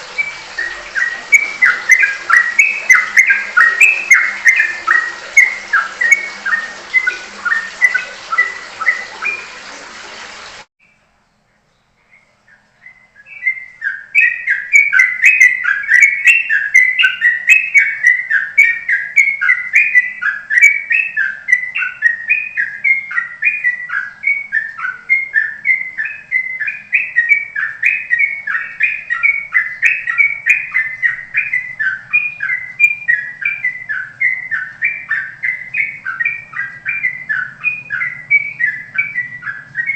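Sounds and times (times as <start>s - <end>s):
recorded songbird chirps: 0.0s - 9.7s, 10.8s - 39.9s.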